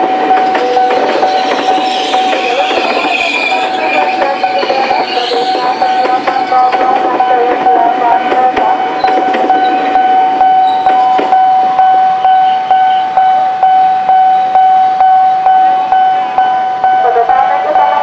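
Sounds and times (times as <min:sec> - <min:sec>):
train rumble and wheel clacks: 0:00.0 - 0:18.0
level crossing bell ringing: 0:00.3 - 0:18.0.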